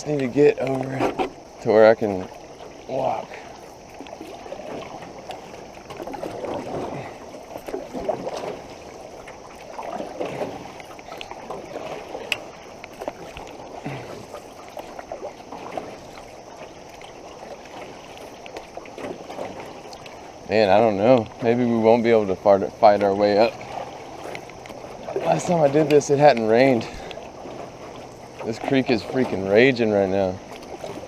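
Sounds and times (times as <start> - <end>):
flood water rushing and splashing: 0.0 - 31.0
paddle strokes: 0.0 - 31.0.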